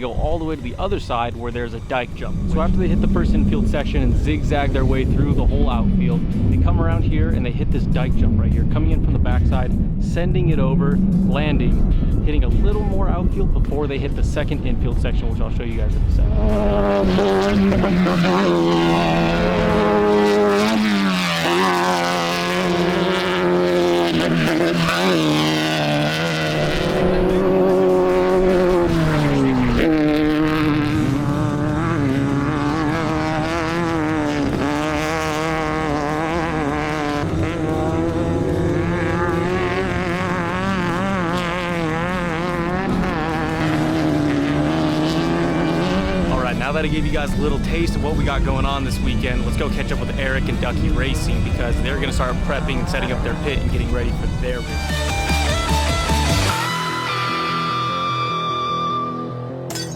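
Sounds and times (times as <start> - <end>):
race vehicle engine revving: 0.0 - 59.9.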